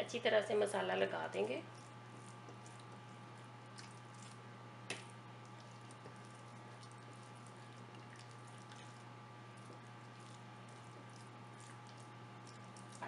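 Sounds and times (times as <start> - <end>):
steady low hum: 0.0 - 13.0
hand rubbing marinade into chicken: 0.3 - 4.5, 5.5 - 13.0.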